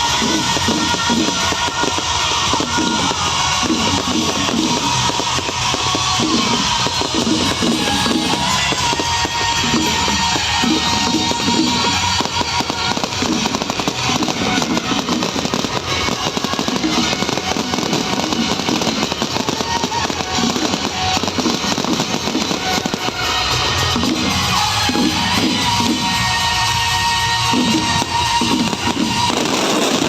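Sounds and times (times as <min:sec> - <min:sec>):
fireworks crackling: 0:00.0 - 0:30.0
loud music: 0:00.0 - 0:30.0.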